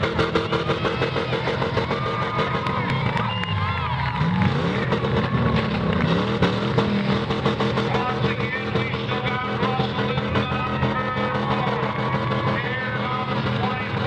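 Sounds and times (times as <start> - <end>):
car engines revving: 0.0 - 14.0
loud rock music: 0.0 - 14.0.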